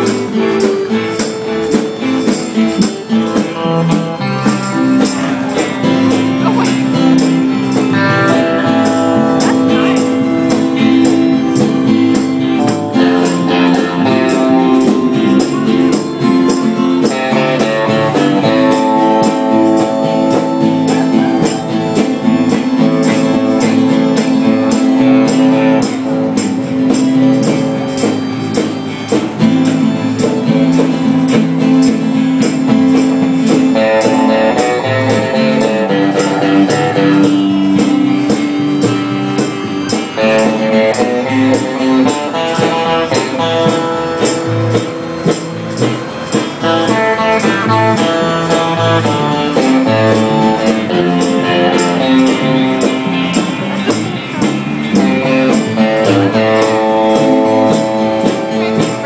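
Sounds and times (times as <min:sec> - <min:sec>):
band playing music: 0:00.0 - 0:59.0
guitar: 0:00.0 - 0:59.0
percussion beat: 0:00.0 - 0:59.0.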